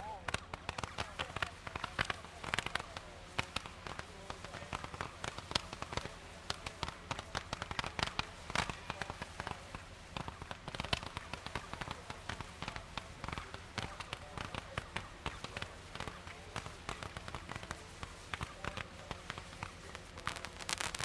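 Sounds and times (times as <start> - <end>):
fireworks crackling and popping: 0.0 - 21.0.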